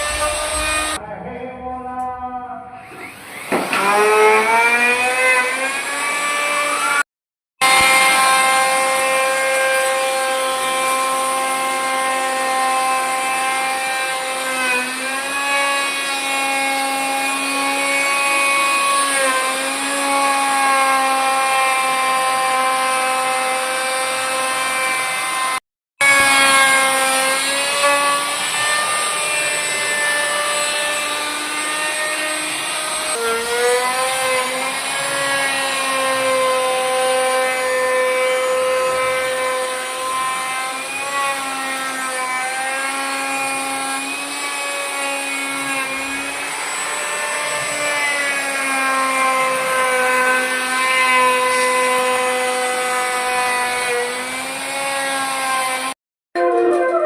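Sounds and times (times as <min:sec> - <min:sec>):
power tool motor whining: 0:00.0 - 0:01.0, 0:02.9 - 0:07.0, 0:07.6 - 0:55.9.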